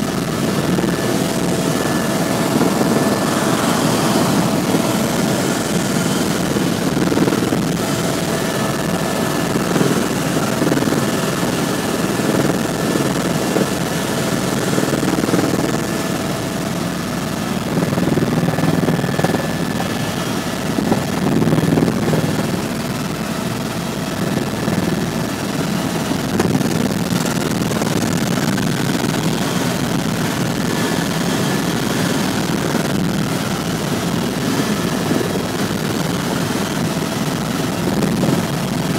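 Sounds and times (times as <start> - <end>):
faint steady whine: 0.0 - 38.9
helicopter engine and rotors droning: 0.0 - 38.9.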